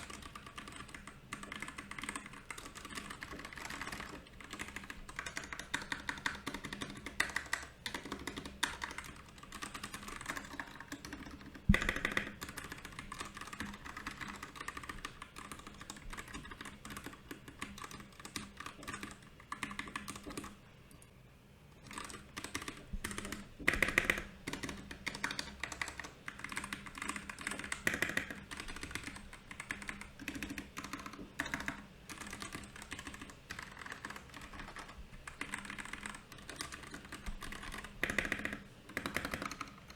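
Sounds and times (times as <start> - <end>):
mechanical keyboard typing: 0.0 - 20.6, 21.8 - 39.9.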